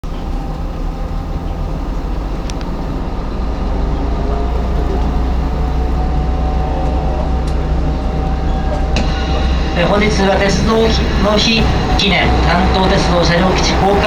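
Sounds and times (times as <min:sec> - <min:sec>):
diesel railcar engine drone: 0:00.0 - 0:14.0.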